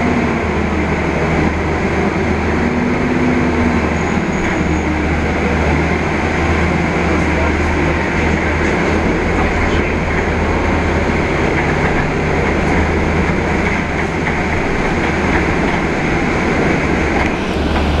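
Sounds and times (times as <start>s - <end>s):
bus engine drone: 0.0s - 18.0s
road and body rumble: 0.0s - 18.0s.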